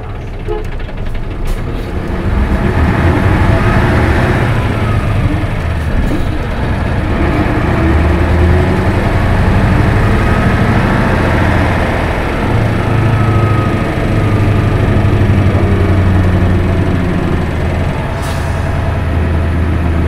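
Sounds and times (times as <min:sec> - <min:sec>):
bus diesel engine: 0:00.0 - 0:20.0
road noise: 0:00.0 - 0:20.0.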